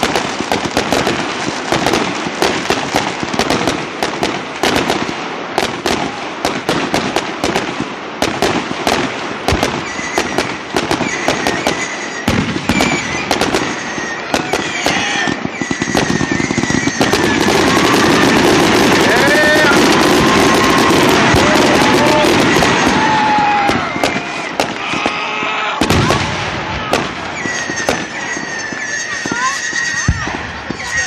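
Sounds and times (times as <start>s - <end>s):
whistling firework shells: 0.0s - 4.9s, 9.4s - 31.0s
fireworks crackling and popping: 0.0s - 31.0s.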